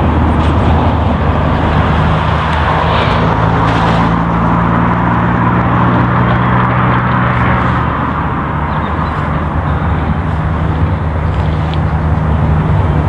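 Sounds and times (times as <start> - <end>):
lorry engine humming: 0.0 - 13.0.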